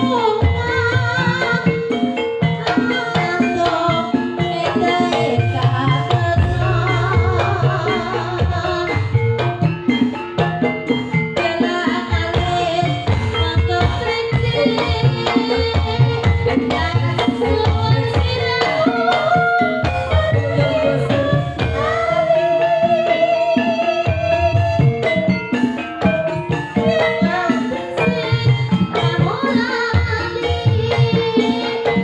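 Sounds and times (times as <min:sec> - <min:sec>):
hand drums rhythm: 0:00.0 - 0:32.0
wavering melody line: 0:00.0 - 0:32.0.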